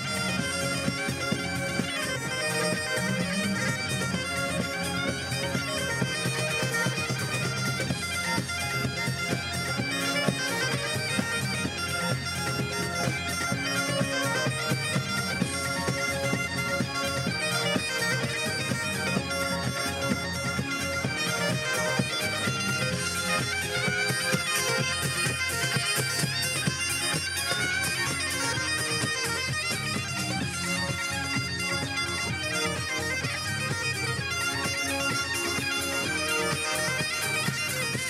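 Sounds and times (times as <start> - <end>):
bagpipes playing a lively tune: 0.0 - 38.0.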